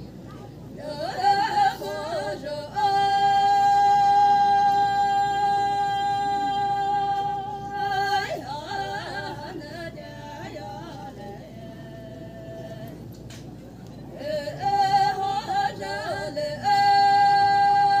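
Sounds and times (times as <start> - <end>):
women singing unaccompanied: 0.7 - 13.1, 14.1 - 18.0.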